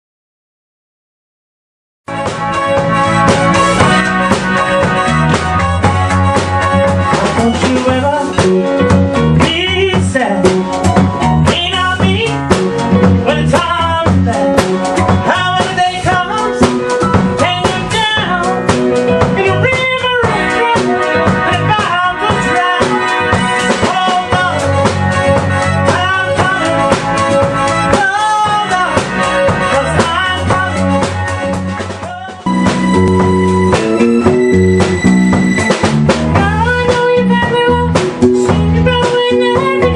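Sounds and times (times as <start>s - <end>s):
band playing upbeat song: 2.1s - 39.9s.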